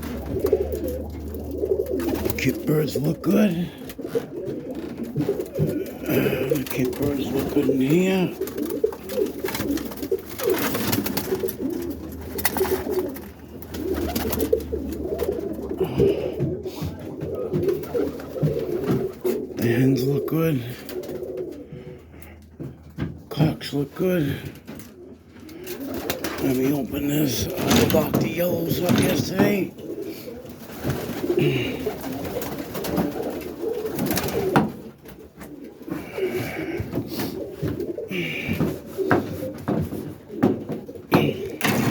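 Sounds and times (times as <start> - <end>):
pigeons cooing: 0.0 - 41.9.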